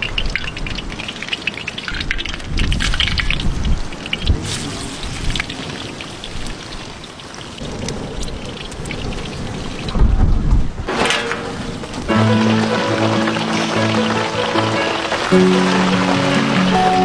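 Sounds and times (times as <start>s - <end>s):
batter deep-frying in oil: 0.0s - 10.1s, 11.8s - 17.0s.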